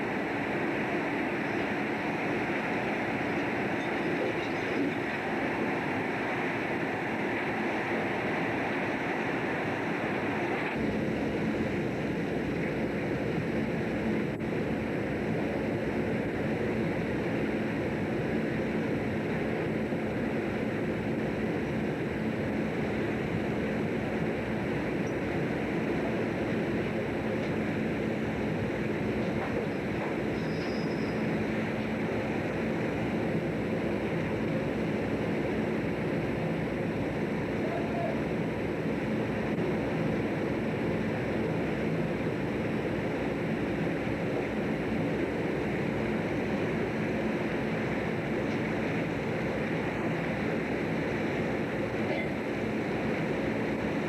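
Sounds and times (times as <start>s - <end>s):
boat engine drone: 0.0s - 54.0s.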